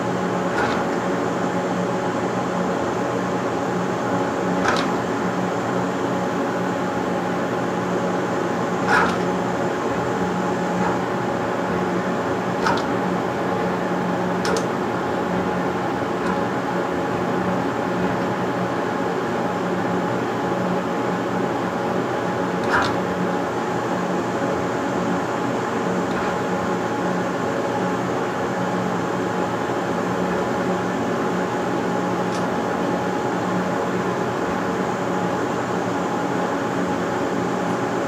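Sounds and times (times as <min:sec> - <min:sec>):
machine motor hum: 0:00.0 - 0:38.0.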